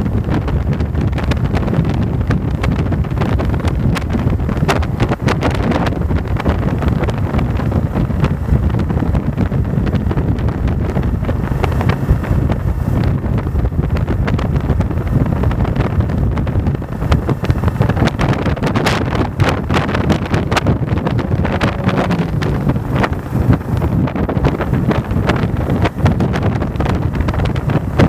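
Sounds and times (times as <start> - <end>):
motorcycle engine drone: 0.0 - 28.0
wind buffeting microphone: 0.0 - 28.0.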